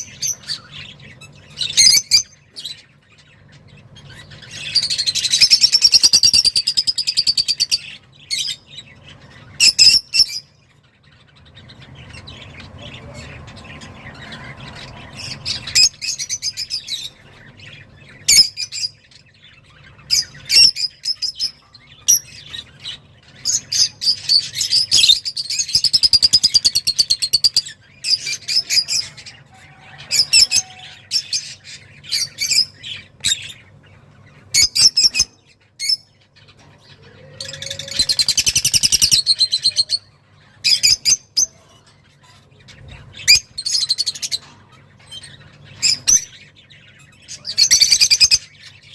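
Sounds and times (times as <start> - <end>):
songbird trilling and chirping: 0.0 - 41.6.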